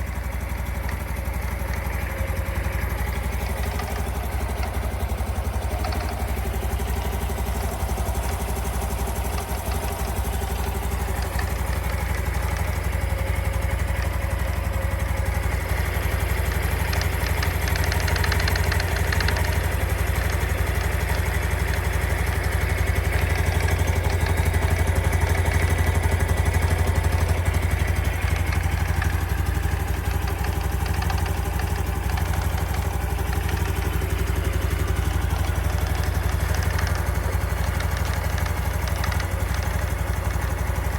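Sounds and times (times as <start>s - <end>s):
motorcycle engine idling with rattle: 0.0s - 40.9s.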